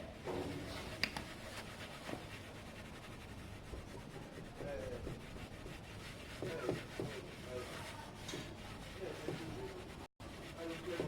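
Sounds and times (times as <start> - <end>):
cloth scrubbing plastic panel: 0.3 - 11.0.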